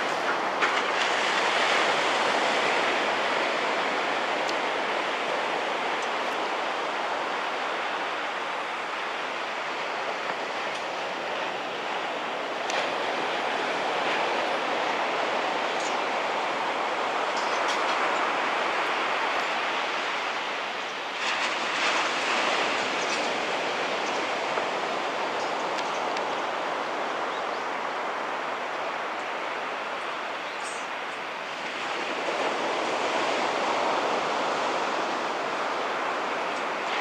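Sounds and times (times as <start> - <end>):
small waves breaking on sand: 0.0 - 37.0.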